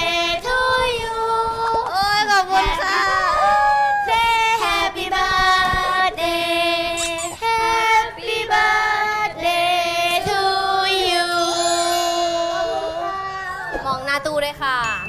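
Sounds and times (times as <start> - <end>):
young women singing together: 0.0 - 13.4.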